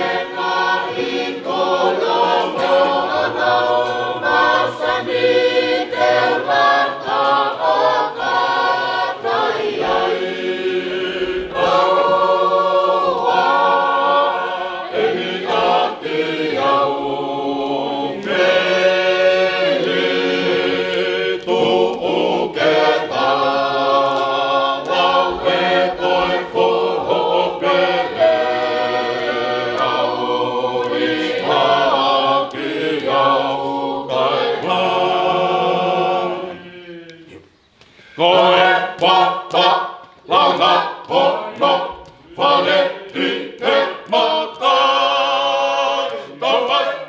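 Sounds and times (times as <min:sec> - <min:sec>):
choir singing a hymn: 0:00.0 - 0:47.0.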